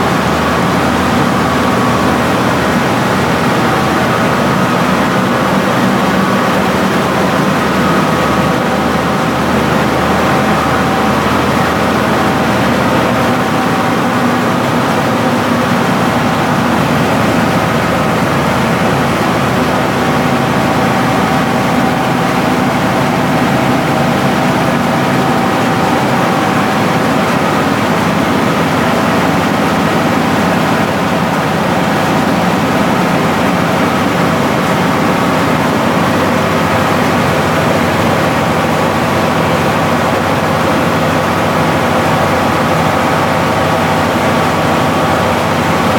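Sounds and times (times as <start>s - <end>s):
milling machine running: 0.0s - 45.9s.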